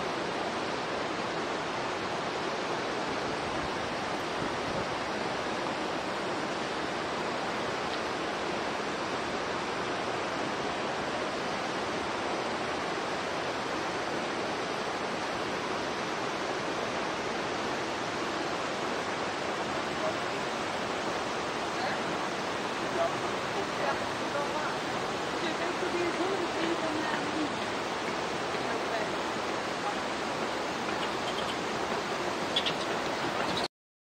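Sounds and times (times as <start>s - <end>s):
flowing water rushing: 0.0s - 33.7s.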